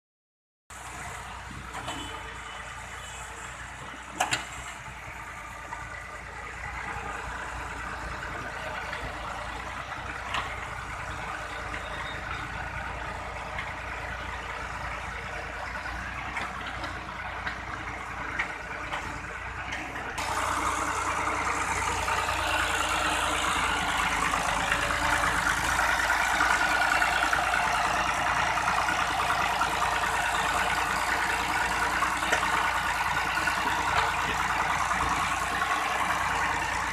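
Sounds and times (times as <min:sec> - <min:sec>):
tractor engine running: 0:00.7 - 0:36.9.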